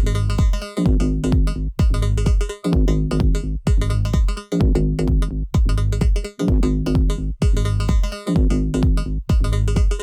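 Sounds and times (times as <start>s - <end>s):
deep kick drum hits: 0.0s - 10.0s.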